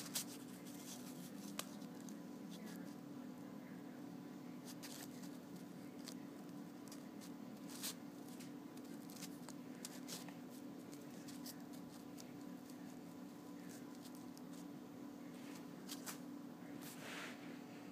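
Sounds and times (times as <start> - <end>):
paper rustling and crackling: 0.0 - 3.0, 4.6 - 14.7, 15.4 - 17.0
steady low hum: 0.0 - 17.9.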